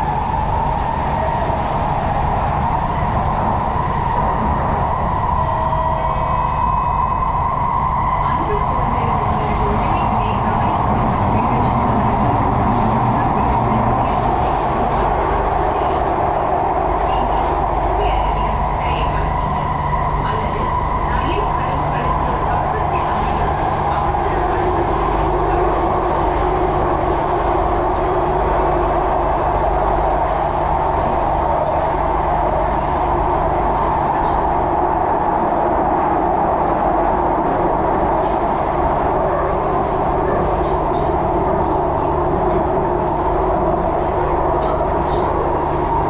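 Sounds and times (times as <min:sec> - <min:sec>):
train rumble and hum: 0:00.0 - 0:46.0.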